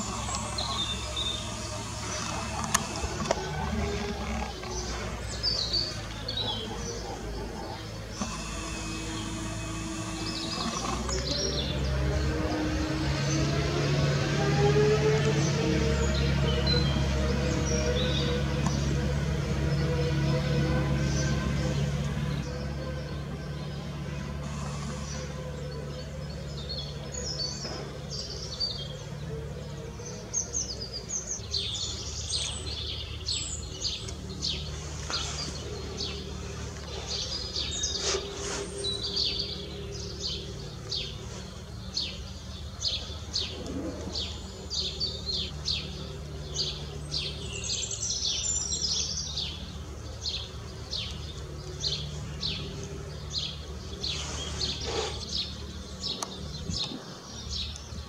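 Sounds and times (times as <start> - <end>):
songbirds chirping and singing: 0.0 - 58.0
steady low hum: 0.0 - 58.0.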